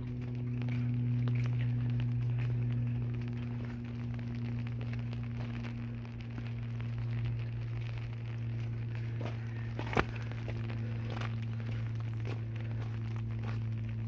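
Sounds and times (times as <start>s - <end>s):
faint ticks and crackles: 0.0s - 14.0s
steady low hum: 0.0s - 14.0s.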